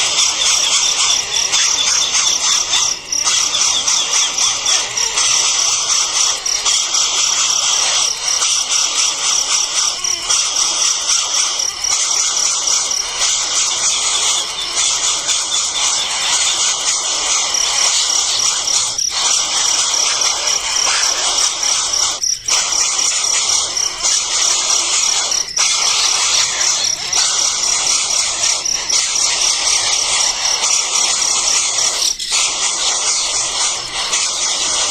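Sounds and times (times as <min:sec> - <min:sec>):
nestlings chirping: 0:00.0 - 0:34.9
rapid high trill: 0:00.0 - 0:34.9.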